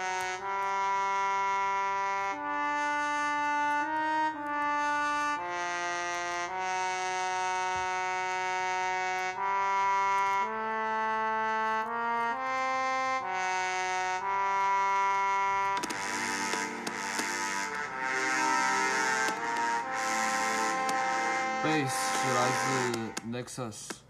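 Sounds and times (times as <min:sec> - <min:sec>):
french horn melody: 0:00.0 - 0:23.4.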